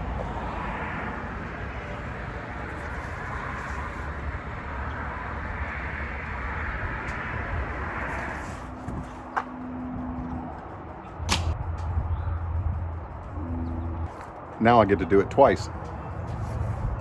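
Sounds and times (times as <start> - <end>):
low vehicle rumble: 0.0 - 17.0.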